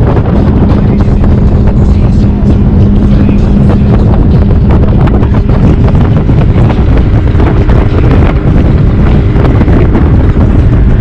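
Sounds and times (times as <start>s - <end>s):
outboard motor drone: 0.0s - 11.0s
wind buffeting microphone: 0.0s - 11.0s.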